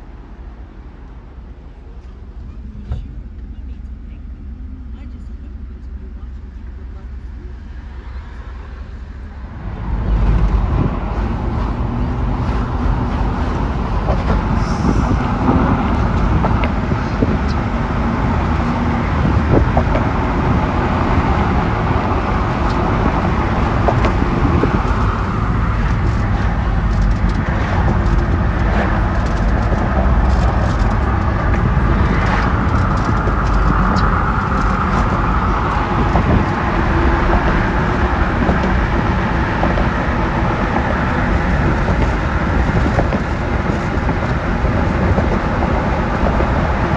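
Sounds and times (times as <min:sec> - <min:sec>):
wind blowing hard: 0:05.5 - 0:46.9.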